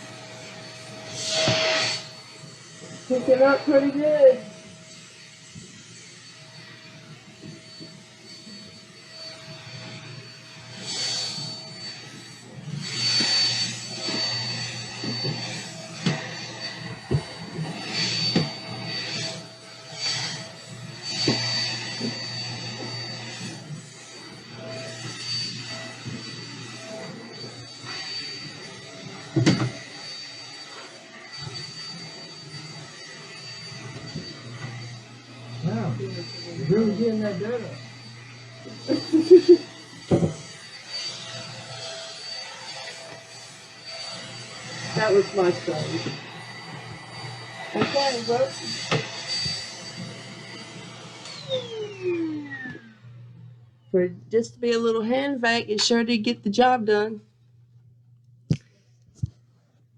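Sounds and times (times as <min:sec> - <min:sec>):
vacuum cleaner on carpet: 0:00.0 - 0:57.1.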